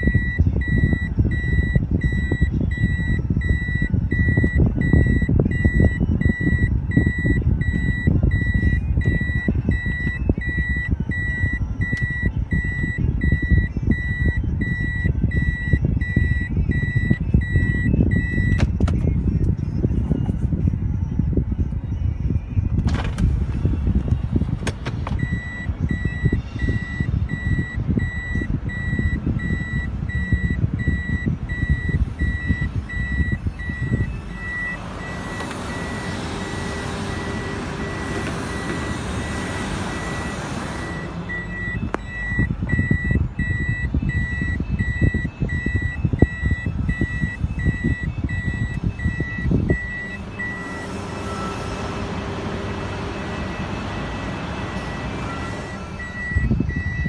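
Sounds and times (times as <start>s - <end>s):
reverse warning beep: 0.0s - 18.6s, 25.2s - 51.8s, 52.9s - 57.0s
low rumbling: 0.0s - 57.0s.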